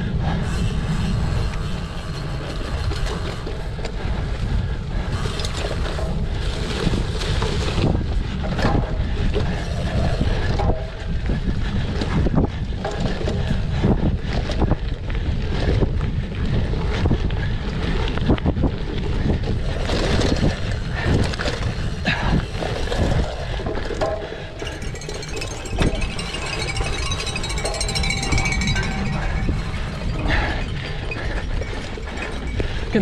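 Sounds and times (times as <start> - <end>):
wind buffeting microphone: 0.0 - 33.0
bike knocks and rattles: 2.1 - 28.6.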